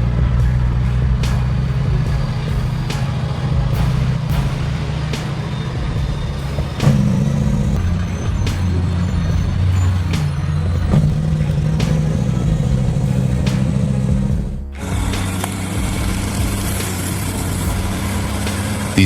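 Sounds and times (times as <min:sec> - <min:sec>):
heavy vehicle engine droning: 0:00.0 - 0:19.0
sharp metallic knocks: 0:00.0 - 0:19.0.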